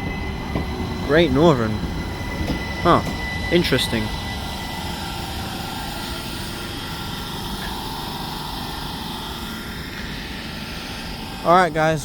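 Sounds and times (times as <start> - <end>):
electric train rumble: 0.0 - 12.0
faint train whine: 0.0 - 12.0.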